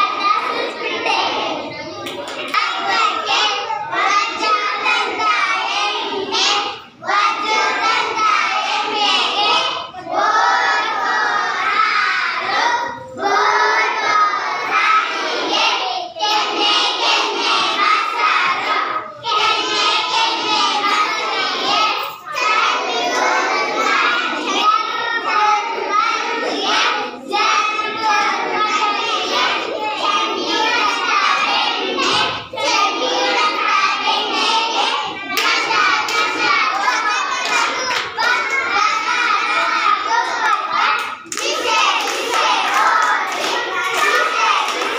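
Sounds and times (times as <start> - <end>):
children singing in unison: 0.0 - 44.9.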